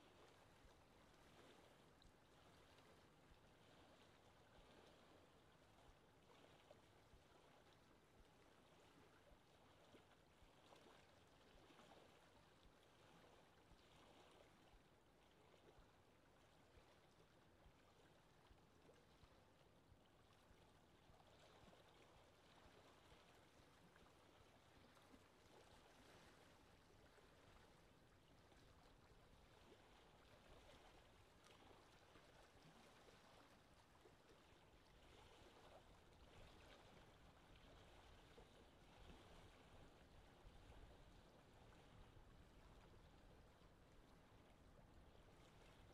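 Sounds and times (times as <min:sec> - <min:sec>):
small waves lapping: 0:00.0 - 0:45.9
wind over water: 0:00.0 - 0:45.9.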